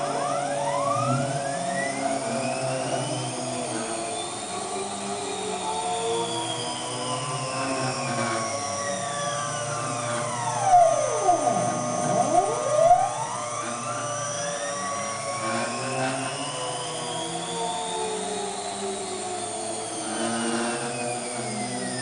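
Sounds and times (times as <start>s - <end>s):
stepper motors whining: 0.0s - 22.0s.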